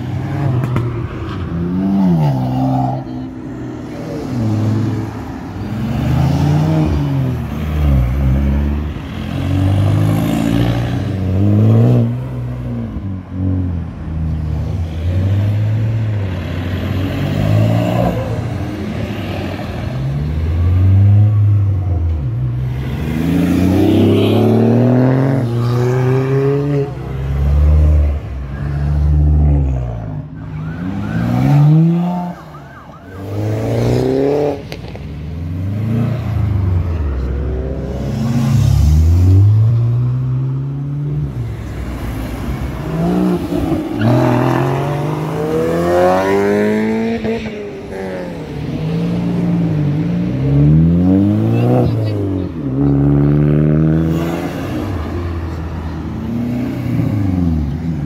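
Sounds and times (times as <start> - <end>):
cars accelerating and revving: 0.0 - 58.0.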